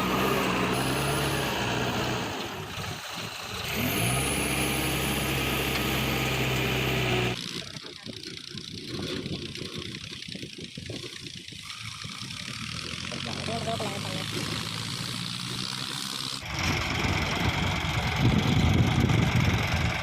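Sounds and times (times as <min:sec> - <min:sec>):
backhoe diesel engine revving: 0:00.0 - 0:10.0, 0:11.2 - 0:20.0
rough engine sound: 0:00.0 - 0:20.0.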